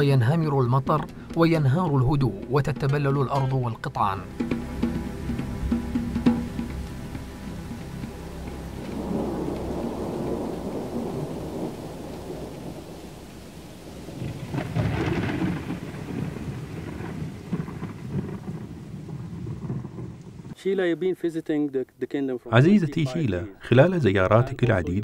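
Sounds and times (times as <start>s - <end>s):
steady rain: 0.0s - 20.6s
thunder rumbling: 0.0s - 20.6s.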